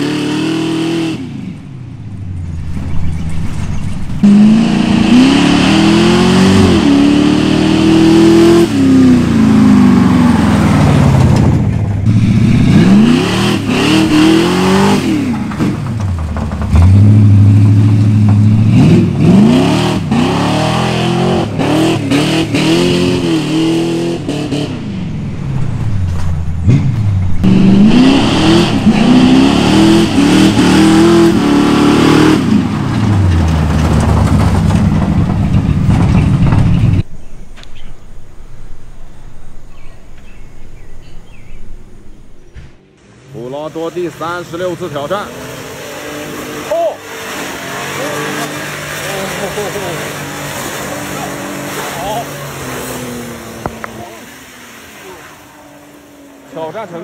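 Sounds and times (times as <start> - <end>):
pickup truck engine revving: 0.0 - 37.0, 44.0 - 57.0.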